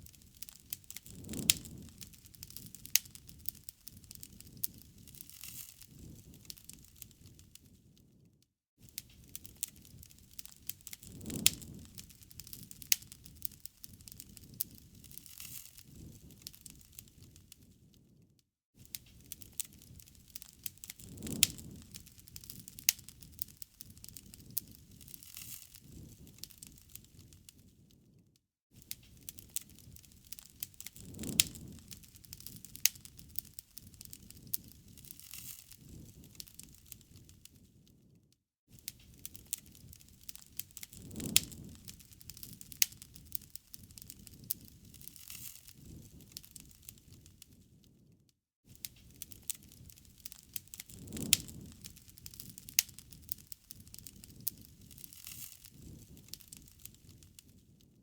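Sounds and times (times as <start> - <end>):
wood fire crackling and popping: 0.0 - 8.2, 8.8 - 18.2, 18.8 - 28.2, 28.8 - 38.1, 38.7 - 48.1, 48.7 - 58.0.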